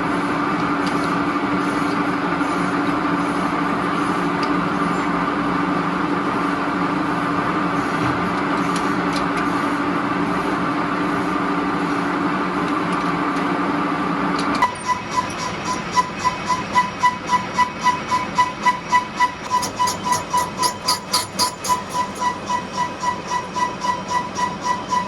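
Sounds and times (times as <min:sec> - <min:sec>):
industrial machinery humming: 0:00.0 - 0:25.0.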